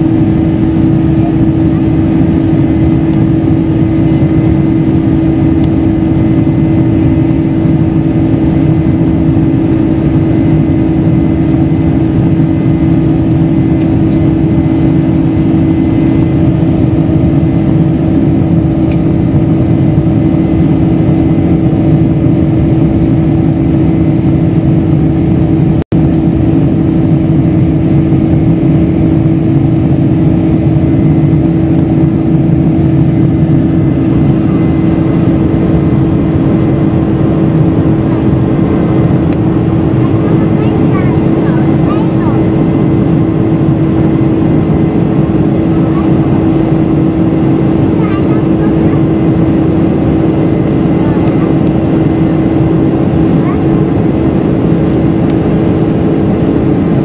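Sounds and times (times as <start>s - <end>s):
airflow rumble: 0.0s - 57.0s
airplane cabin engine drone: 0.0s - 57.0s.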